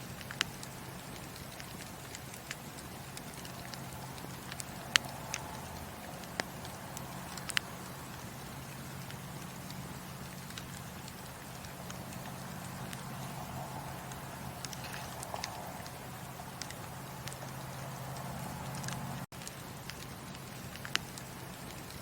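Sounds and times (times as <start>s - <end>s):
fire crackling and popping: 0.0s - 22.0s
low fire rumble: 0.0s - 22.0s.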